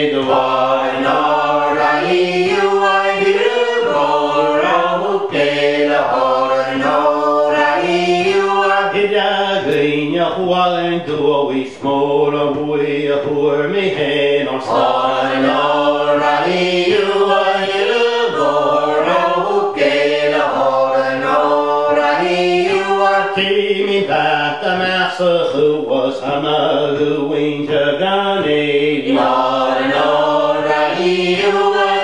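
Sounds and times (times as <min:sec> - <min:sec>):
group singing unaccompanied: 0:00.0 - 0:32.0.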